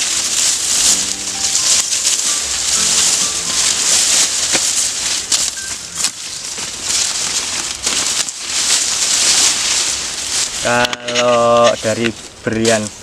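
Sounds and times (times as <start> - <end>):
dry grass rustling and crackling: 0.0 - 13.0.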